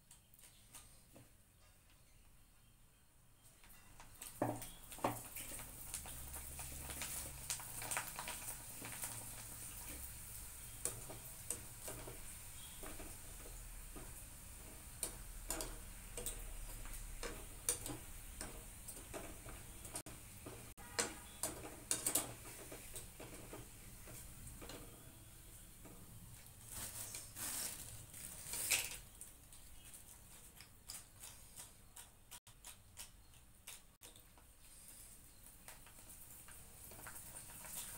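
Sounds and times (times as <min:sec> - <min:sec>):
food crackling in hot oil: 0:03.5 - 0:37.9.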